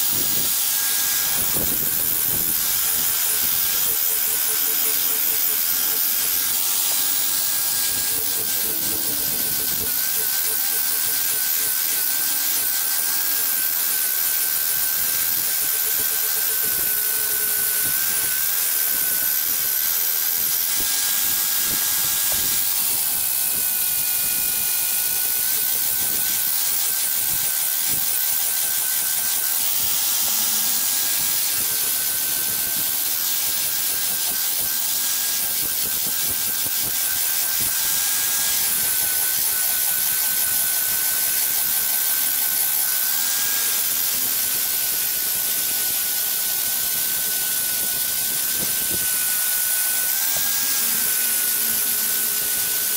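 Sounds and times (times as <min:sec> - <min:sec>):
sanding disc abrading wood: 0:00.0 - 0:46.0
angle grinder motor whine: 0:00.0 - 0:52.9.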